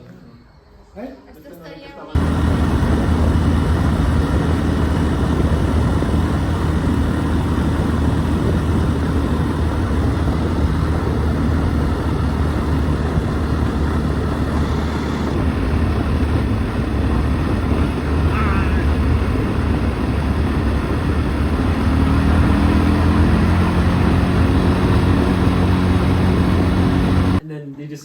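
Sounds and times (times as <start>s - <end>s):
vehicle engine running: 2.2s - 27.4s.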